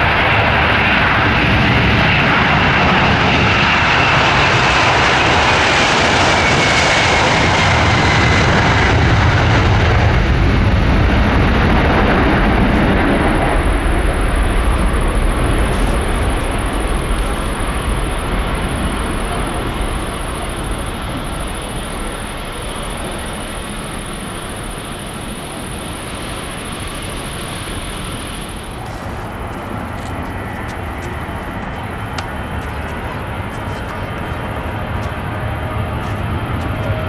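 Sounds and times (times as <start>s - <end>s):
jet engine rumble: 0.0s - 37.0s.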